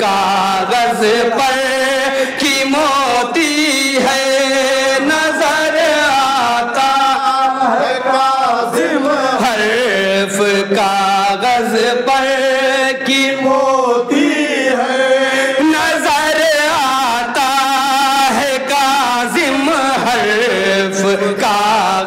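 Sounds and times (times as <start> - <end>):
men singing devotional song: 0.0 - 22.0.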